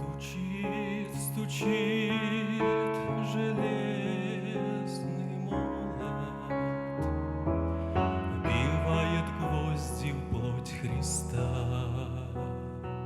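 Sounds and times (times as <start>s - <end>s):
sustained keyboard chords: 0.0s - 13.0s.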